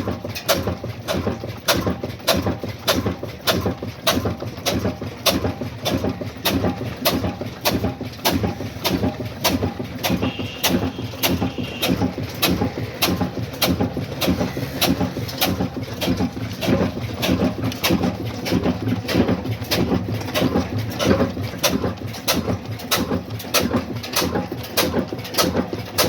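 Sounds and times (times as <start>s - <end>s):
diesel engine knocking: 0.0s - 26.0s.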